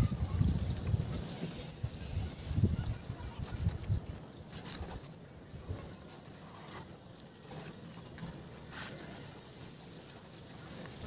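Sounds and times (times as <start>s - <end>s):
rope rustling and scraping: 0.0s - 11.0s.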